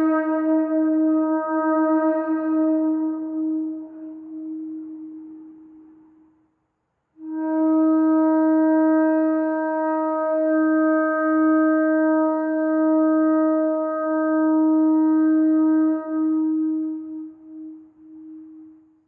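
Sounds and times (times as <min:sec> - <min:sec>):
shofar long blast: 0:00.0 - 0:06.4, 0:07.2 - 0:19.0.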